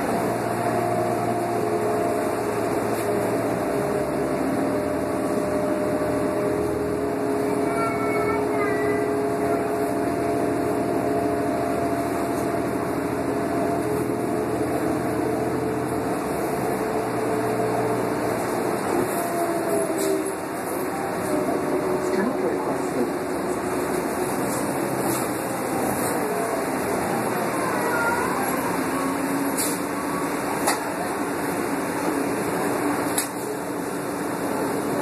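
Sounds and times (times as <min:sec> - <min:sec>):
bus engine droning: 0:00.0 - 0:35.0.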